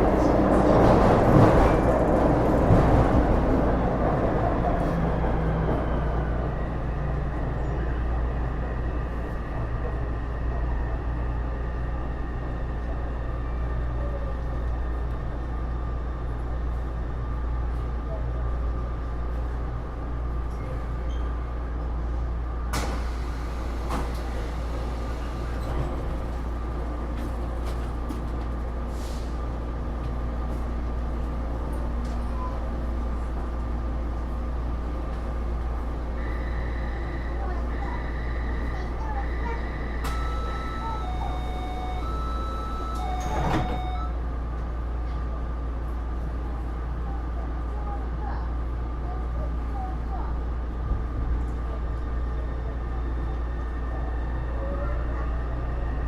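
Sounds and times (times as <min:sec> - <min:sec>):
train running noise: 0:00.0 - 0:47.0.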